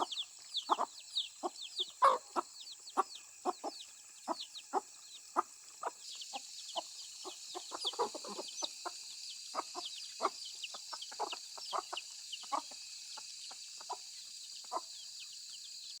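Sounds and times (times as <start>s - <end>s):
chickens clucking: 0.0s - 15.7s.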